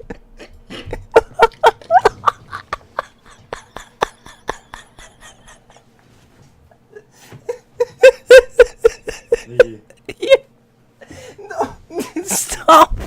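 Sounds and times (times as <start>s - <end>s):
person laughing breathlessly: 0.0s - 12.8s.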